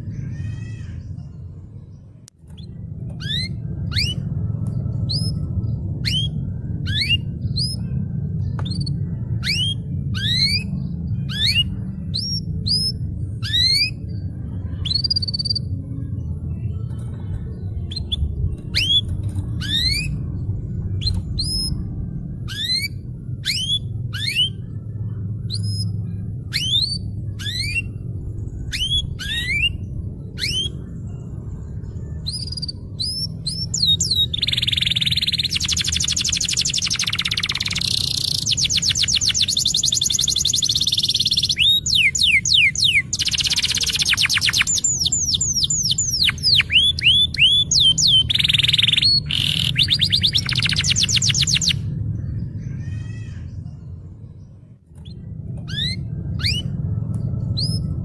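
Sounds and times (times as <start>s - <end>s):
canary singing: 0.0s - 58.0s
steady low hum: 0.0s - 58.0s.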